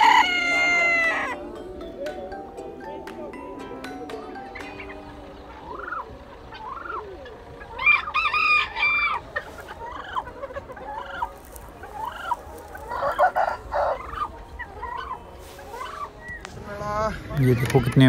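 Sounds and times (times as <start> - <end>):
chickens calling: 0.0 - 18.0.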